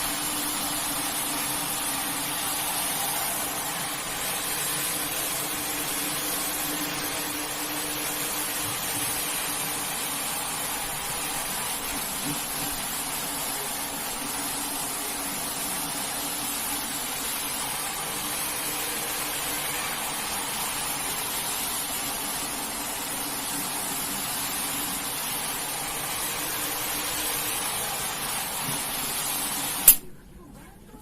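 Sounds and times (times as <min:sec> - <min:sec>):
pressure washer water spraying: 0:00.0 - 0:30.0
pump motor hum: 0:00.0 - 0:30.0.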